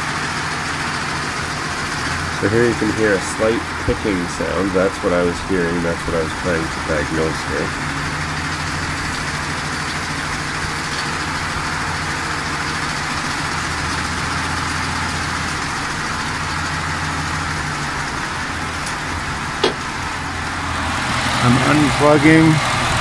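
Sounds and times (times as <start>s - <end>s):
engine running: 0.0s - 23.0s
engine ticking: 0.0s - 23.0s.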